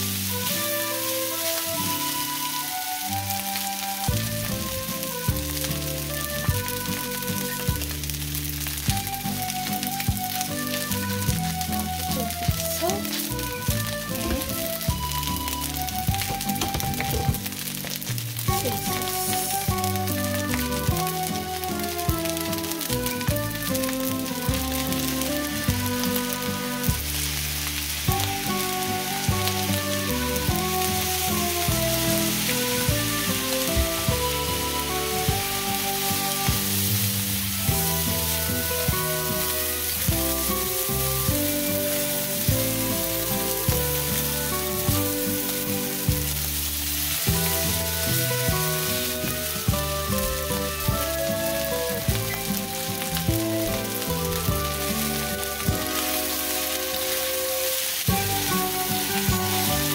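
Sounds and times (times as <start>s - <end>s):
background music with a beat: 0.0s - 59.9s
rice sizzling in a pan: 0.0s - 59.9s.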